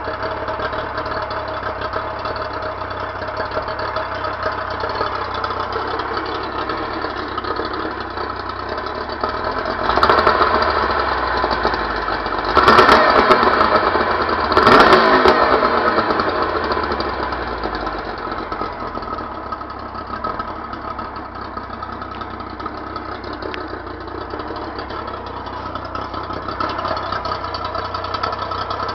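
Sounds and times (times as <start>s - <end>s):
outboard motor revving and idling: 0.0s - 28.9s.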